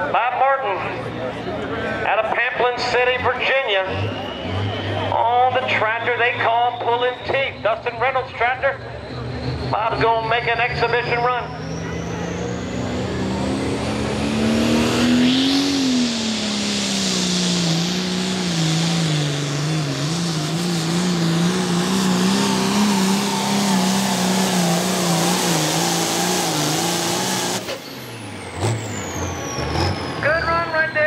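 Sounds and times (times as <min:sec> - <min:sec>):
pulling tractor diesel engine: 0:00.0 - 0:31.0.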